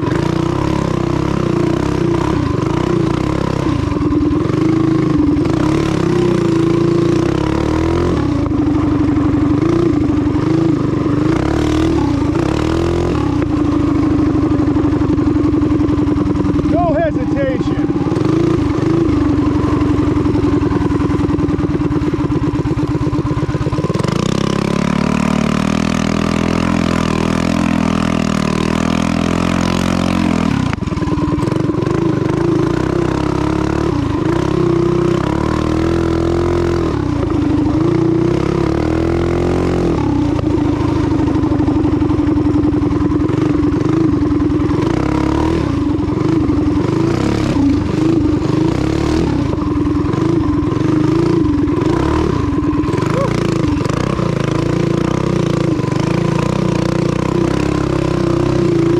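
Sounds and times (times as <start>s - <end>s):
small engine revving: 0.0s - 58.9s.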